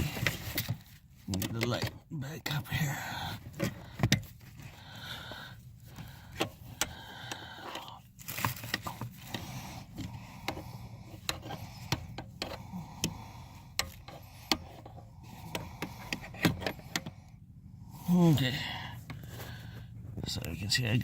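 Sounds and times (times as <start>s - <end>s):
hands handling parts: 0.0s - 17.4s.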